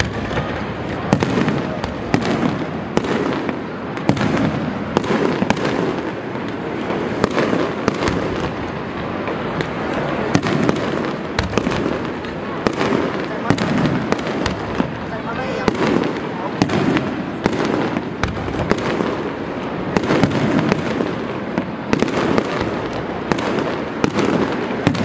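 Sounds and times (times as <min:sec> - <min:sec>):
fireworks bangs and pops: 0:00.0 - 0:25.0.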